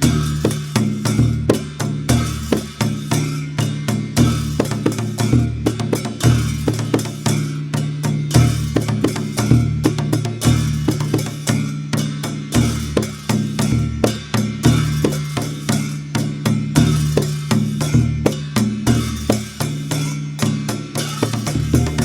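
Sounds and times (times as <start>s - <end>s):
double-headed drum fast rhythm: 0.0s - 22.0s.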